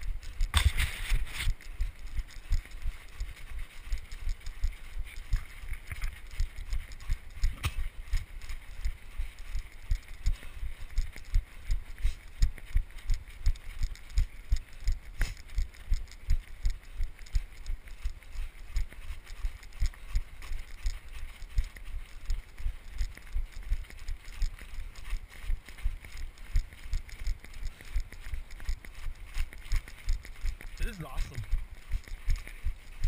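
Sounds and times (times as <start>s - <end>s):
footsteps running on snow: 0.0s - 33.0s.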